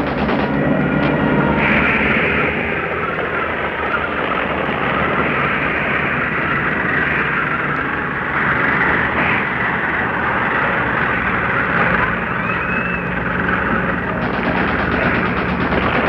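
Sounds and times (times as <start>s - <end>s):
rumble of tanks moving: 0.0s - 16.0s.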